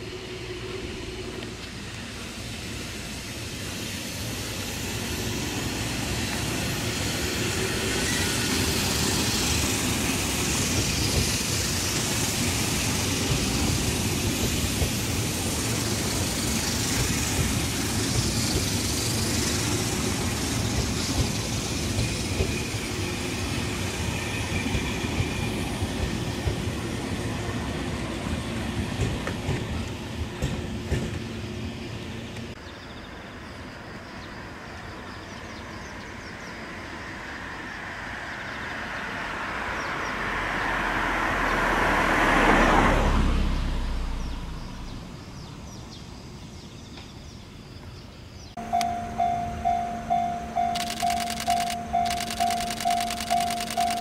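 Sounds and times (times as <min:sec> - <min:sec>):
train passing by: 0:00.0 - 0:54.0
train wheel and motor noise: 0:00.0 - 0:54.0.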